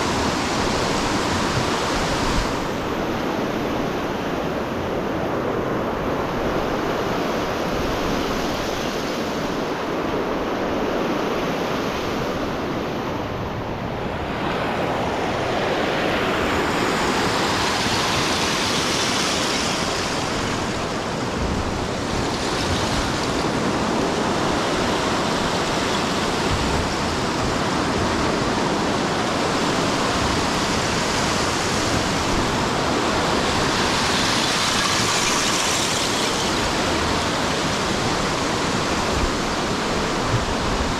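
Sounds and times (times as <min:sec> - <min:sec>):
waves washing against a jetty: 0:00.0 - 0:40.9
wind: 0:00.0 - 0:40.9.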